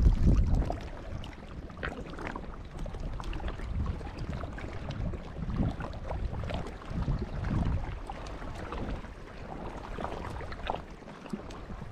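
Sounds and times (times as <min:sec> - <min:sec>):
small waves lapping on rocks: 0:00.0 - 0:11.9
wind rumble on microphone: 0:00.0 - 0:11.9.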